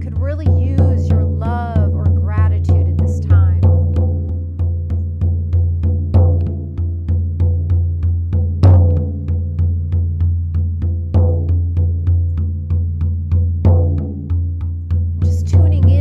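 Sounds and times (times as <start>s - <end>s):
frame drum booming beat: 0.0s - 16.0s.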